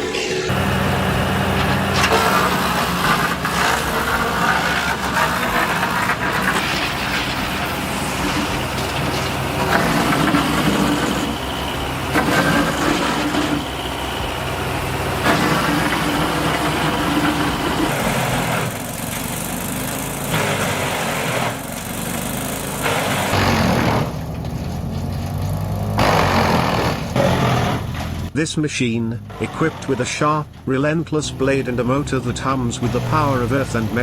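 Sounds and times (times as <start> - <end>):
bursts of chipping noise: 0.0 - 34.0
wood chipper engine droning: 0.0 - 34.0.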